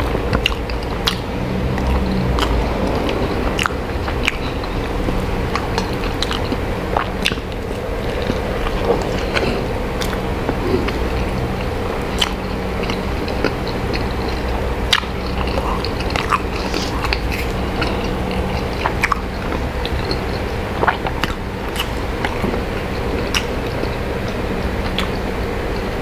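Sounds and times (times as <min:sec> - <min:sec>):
chewing and biting food: 0:00.0 - 0:26.0
steady low hum: 0:00.0 - 0:26.0
wet mouth clicks: 0:00.1 - 0:26.0.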